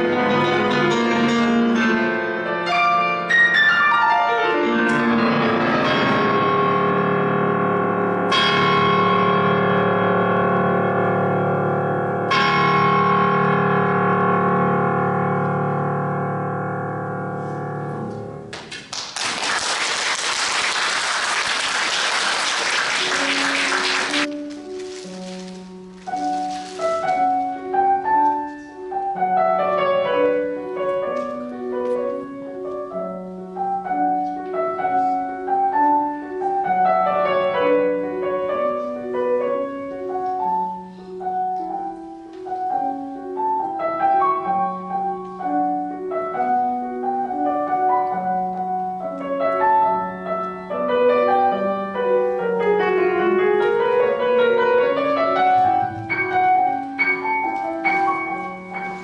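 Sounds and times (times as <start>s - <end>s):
grand piano classical music: 0.0s - 59.0s.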